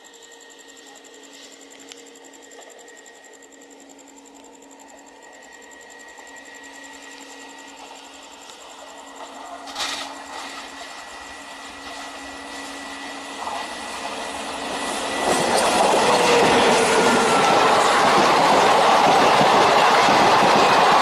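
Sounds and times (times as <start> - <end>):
passenger train passing at speed: 0.0 - 21.0.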